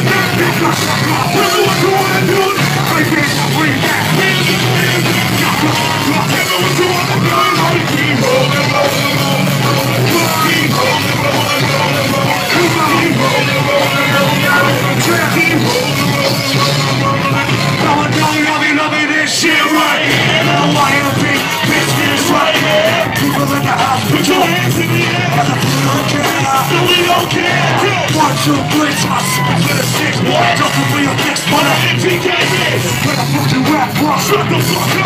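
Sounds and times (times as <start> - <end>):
live band with vocals: 0.0 - 35.0.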